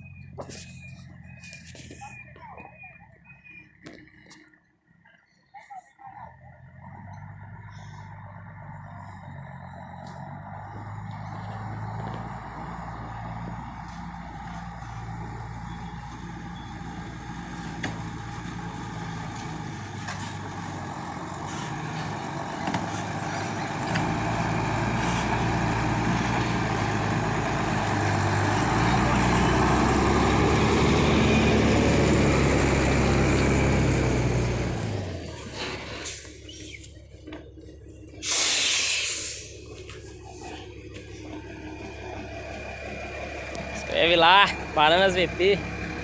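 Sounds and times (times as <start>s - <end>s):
diesel truck engine pulling away: 0.0s - 4.4s, 6.1s - 46.0s.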